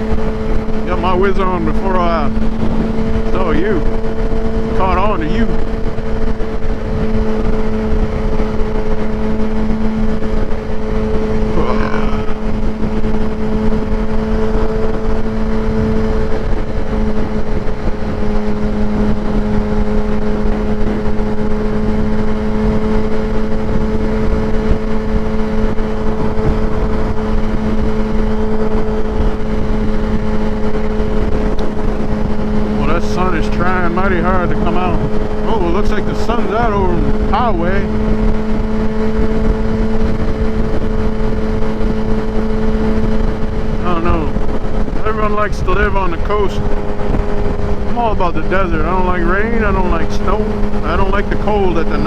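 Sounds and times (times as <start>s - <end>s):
motorcycle engine cruising: 0.0s - 52.0s
road and wind noise: 0.0s - 52.0s.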